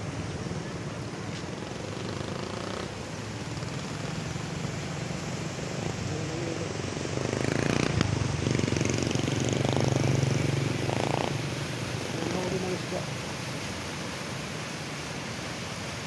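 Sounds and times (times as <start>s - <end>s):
boat engine pulsing hum: 0.0s - 13.9s.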